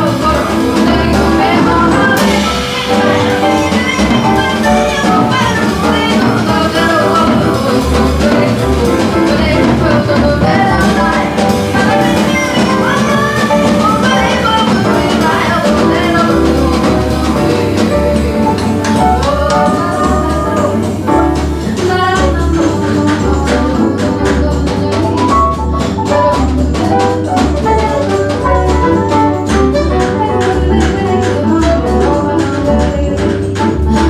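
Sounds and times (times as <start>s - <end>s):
jazz band playing: 0.0s - 34.0s
walking upright bass: 0.0s - 34.0s
woman singing: 0.0s - 34.0s.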